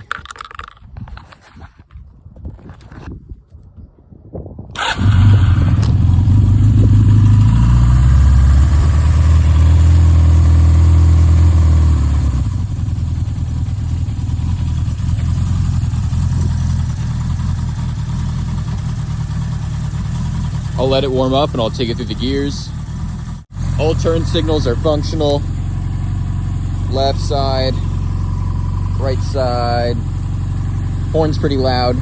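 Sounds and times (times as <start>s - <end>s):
motorcycle engine starting and idling: 4.7s - 32.0s.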